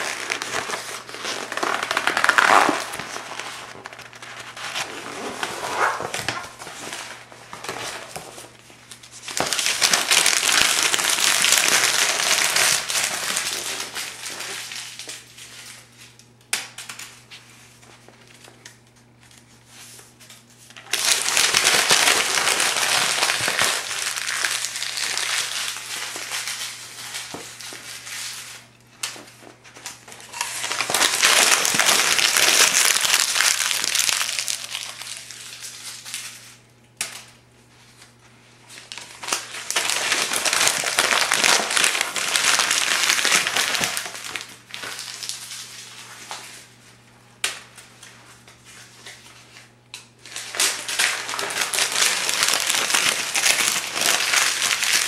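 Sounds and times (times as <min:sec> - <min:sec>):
paper crinkling: 0:00.0 - 0:16.2, 0:16.8 - 0:36.6, 0:37.8 - 0:46.9, 0:47.8 - 0:55.0.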